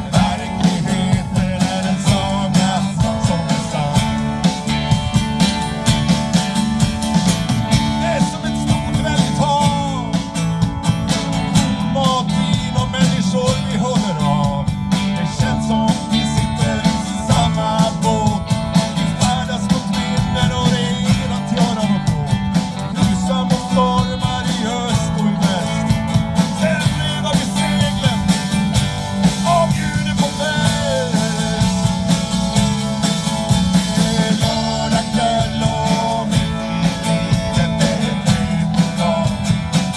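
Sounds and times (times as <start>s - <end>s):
drum kit beat: 0.0s - 39.9s
live band playing: 0.0s - 39.9s.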